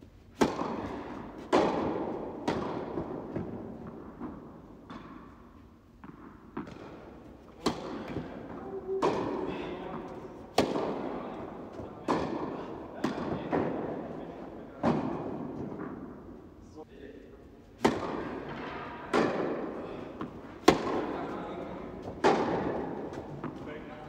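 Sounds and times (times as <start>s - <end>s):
racket hitting tennis ball: 0.3s - 16.2s, 17.8s - 23.9s
tennis ball bouncing on court: 0.4s - 14.0s, 17.8s - 23.9s.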